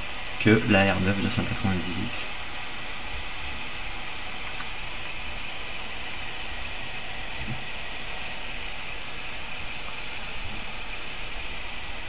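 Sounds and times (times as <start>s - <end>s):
computer fans whooshing: 0.0s - 12.0s
faint high whine: 0.0s - 12.0s.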